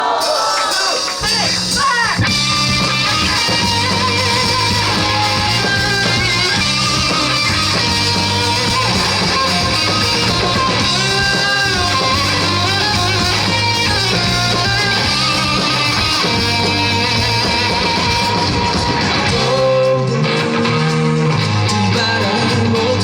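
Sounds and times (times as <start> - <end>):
electric guitar strumming: 1.1 - 23.0
bass notes: 1.5 - 23.0.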